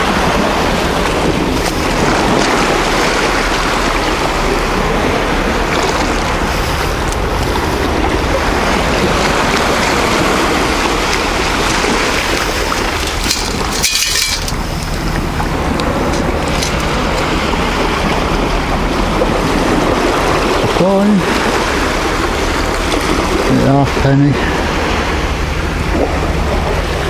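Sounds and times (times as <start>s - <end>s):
low rumble: 0.0s - 27.0s
surf rushing: 0.0s - 27.0s
wind buffeting microphone: 0.0s - 27.0s.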